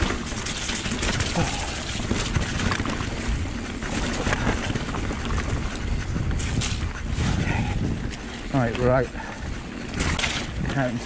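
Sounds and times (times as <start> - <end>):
bike clicking and rattling: 0.0 - 11.0
bike tyres rumbling on rocks: 0.0 - 11.0
wind buffeting microphone: 0.0 - 11.0.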